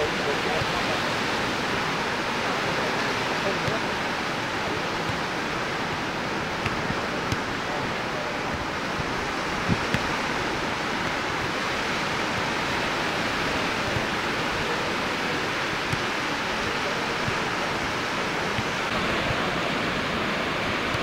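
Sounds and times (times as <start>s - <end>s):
ocean surf breaking: 0.0s - 21.0s.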